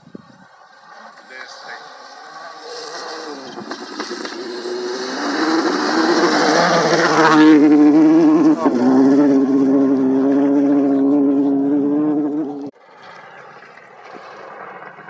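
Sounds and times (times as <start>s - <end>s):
rally car engine at full throttle: 0.2s - 15.0s.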